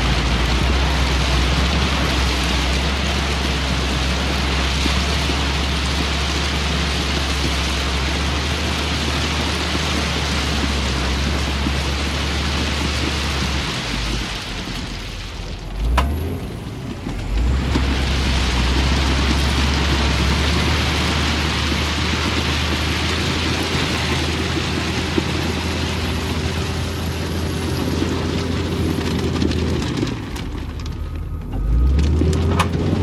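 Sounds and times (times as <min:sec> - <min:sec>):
crushed stone sliding: 0:00.0 - 0:33.0
heavy diesel engine running: 0:00.0 - 0:33.0.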